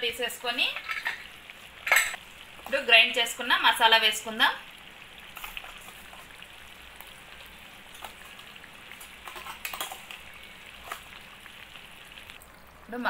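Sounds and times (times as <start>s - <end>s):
curry sizzling: 0.0s - 13.0s.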